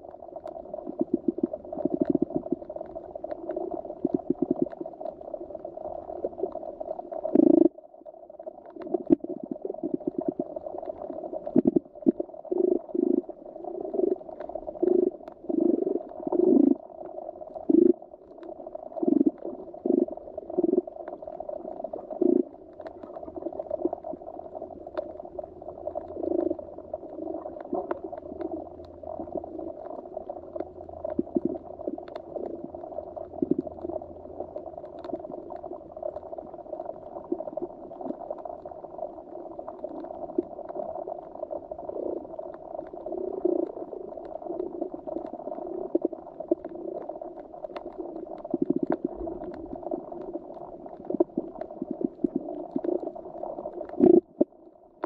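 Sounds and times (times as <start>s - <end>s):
underwater gurgling wash: 0.0s - 55.0s.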